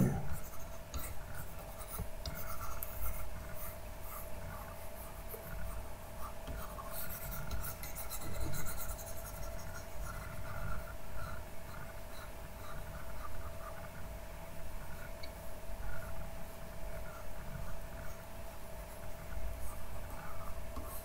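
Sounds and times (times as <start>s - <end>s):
faint hum: 0.0s - 21.0s
stylus scratching on tablet: 0.0s - 21.0s.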